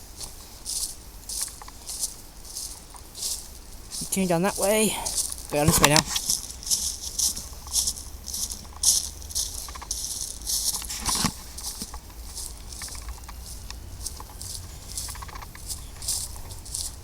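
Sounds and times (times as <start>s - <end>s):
footsteps crunching through dry leaves: 0.0s - 17.0s.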